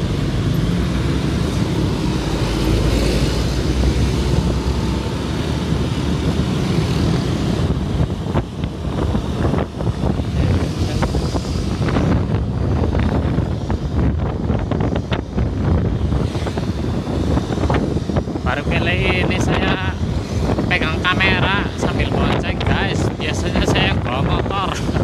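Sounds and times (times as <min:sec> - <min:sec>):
road traffic rumble: 0:00.0 - 0:25.0
wind on microphone: 0:00.0 - 0:25.0.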